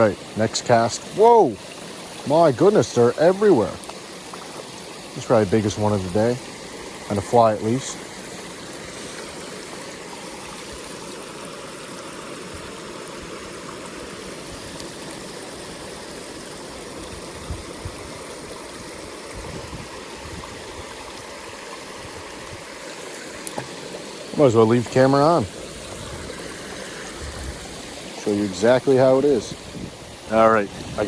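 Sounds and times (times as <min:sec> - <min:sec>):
stream rushing: 0:00.0 - 0:31.0.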